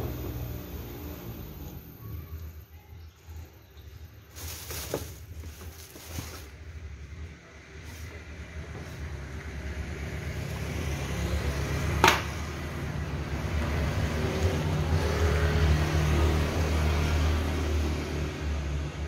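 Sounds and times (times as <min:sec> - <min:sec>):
vehicle engine running: 0:00.0 - 0:02.7, 0:04.3 - 0:19.0.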